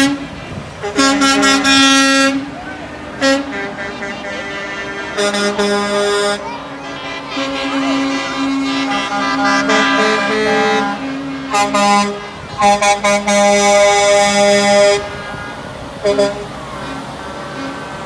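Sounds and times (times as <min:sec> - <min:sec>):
truck air horns honking: 0:00.0 - 0:18.0.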